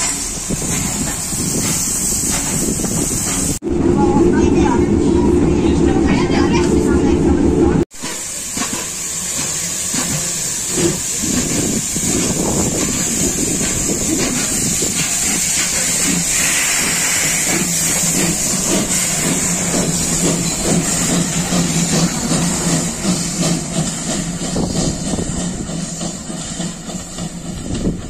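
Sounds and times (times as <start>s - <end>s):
steam locomotive hissing: 0.0s - 3.6s, 7.9s - 28.0s.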